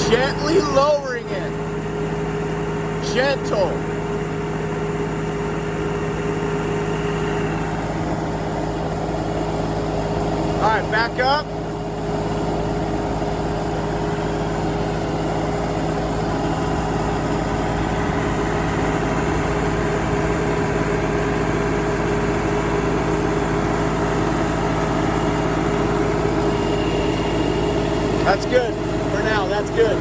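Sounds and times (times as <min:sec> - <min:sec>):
tractor engine running at low revs: 0:00.0 - 0:30.0.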